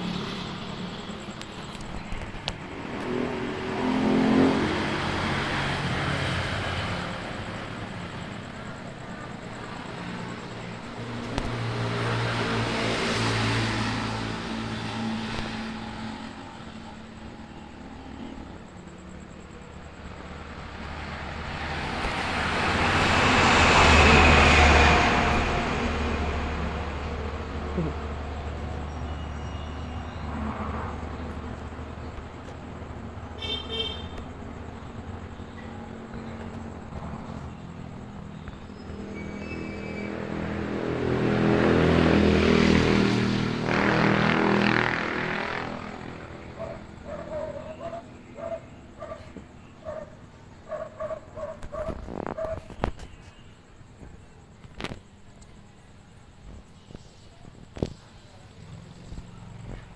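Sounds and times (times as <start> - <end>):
engine passing by: 0.0 - 52.9.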